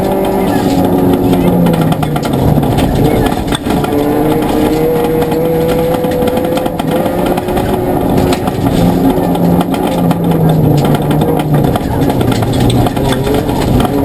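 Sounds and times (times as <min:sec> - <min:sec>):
rally car engine pulling hard: 0:00.0 - 0:14.0
road rumble: 0:00.0 - 0:14.0.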